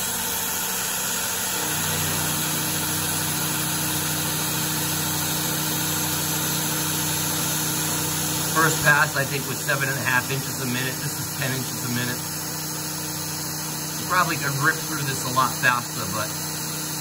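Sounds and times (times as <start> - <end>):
milling machine cutting metal: 0.0 - 17.0
coolant spray hiss: 2.2 - 17.0.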